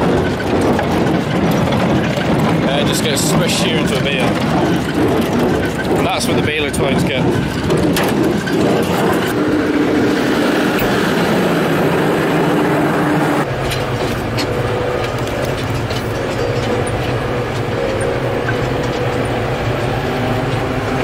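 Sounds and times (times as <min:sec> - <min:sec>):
baler mechanical clatter: 0:00.0 - 0:21.0
tractor engine running: 0:00.0 - 0:21.0.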